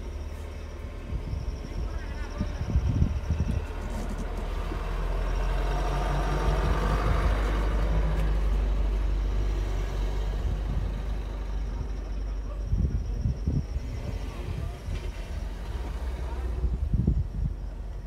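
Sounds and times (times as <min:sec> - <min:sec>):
steady low rumble: 0:00.0 - 0:18.0
vehicle engine rumble: 0:00.0 - 0:18.0.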